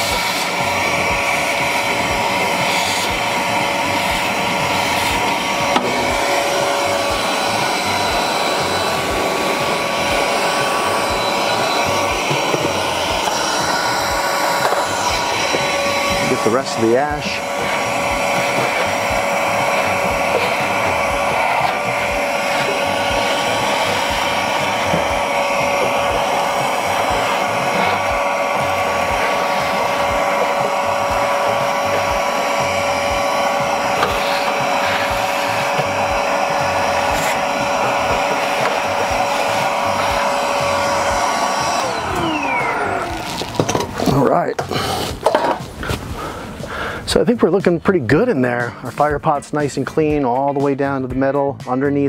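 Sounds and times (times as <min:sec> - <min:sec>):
vacuum motor whine: 0:00.0 - 0:47.3.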